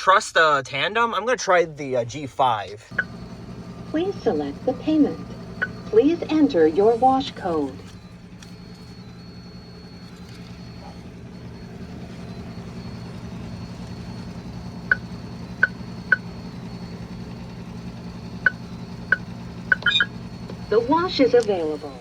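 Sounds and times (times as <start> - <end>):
car engine idling: 2.9 - 22.0
short keypad beeps: 2.9 - 22.0.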